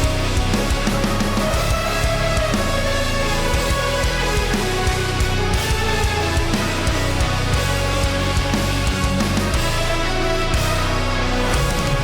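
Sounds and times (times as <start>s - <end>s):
rock music with distorted guitar: 0.0s - 12.0s.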